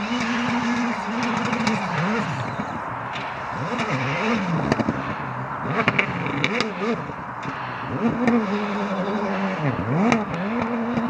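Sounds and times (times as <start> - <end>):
car engine revving: 0.0 - 11.0
steady rushing noise: 0.0 - 11.0.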